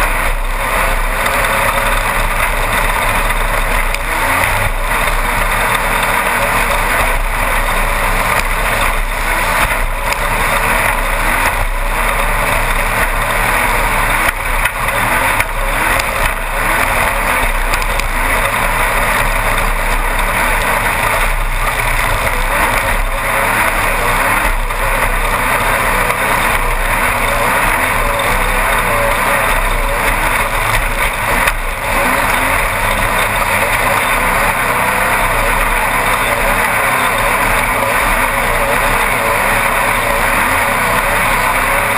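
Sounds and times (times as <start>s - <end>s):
buggy engine running hard: 0.0s - 41.9s.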